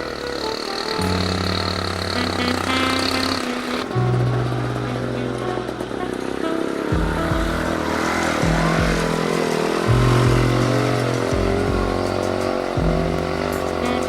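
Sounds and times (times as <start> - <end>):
background music with bass: 0.0 - 14.0
vehicle engine running: 0.0 - 14.0.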